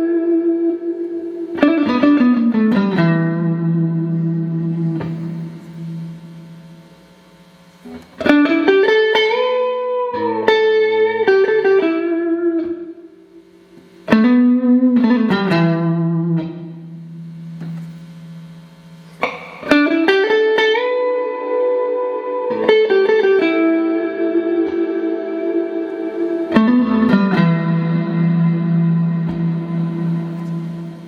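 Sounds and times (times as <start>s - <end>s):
clean electric guitar with reverb: 0.0s - 31.0s.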